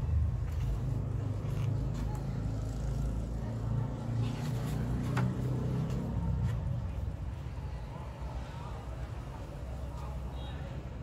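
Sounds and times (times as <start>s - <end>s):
motor traffic rumble: 0.0s - 11.0s.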